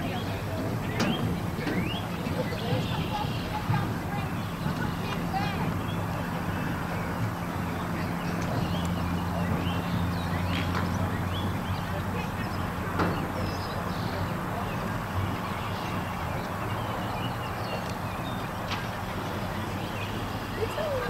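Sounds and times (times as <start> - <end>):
faint distant voices: 0.0 - 21.0.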